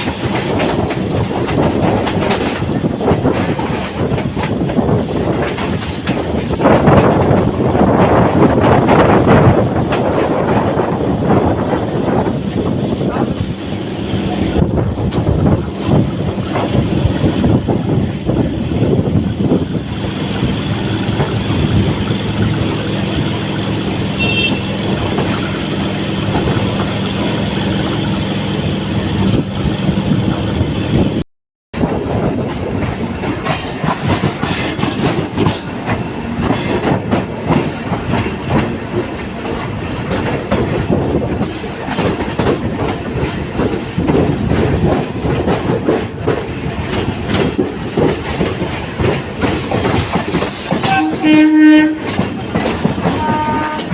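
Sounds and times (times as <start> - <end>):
train wheels clattering over track: 0.0 - 53.9.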